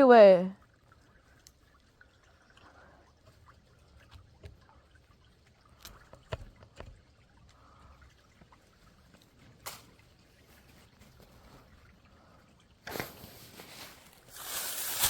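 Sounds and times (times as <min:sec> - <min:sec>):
light water sounds: 0:00.0 - 0:15.0.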